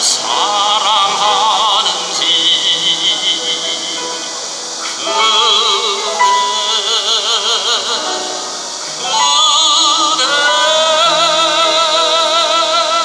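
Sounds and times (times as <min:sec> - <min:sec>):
grand piano: 0:00.0 - 0:13.0
operatic tenor singing: 0:00.0 - 0:13.0.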